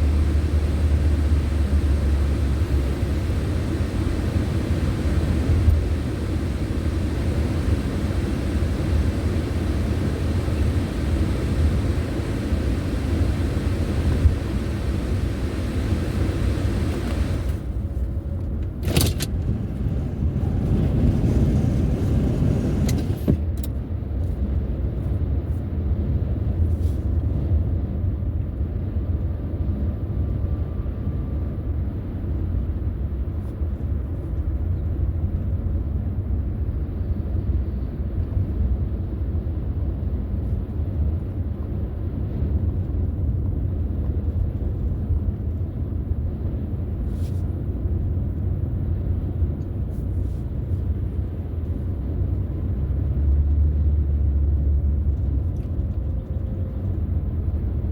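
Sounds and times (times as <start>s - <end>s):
car tyres and engine rumble: 0.0s - 57.9s.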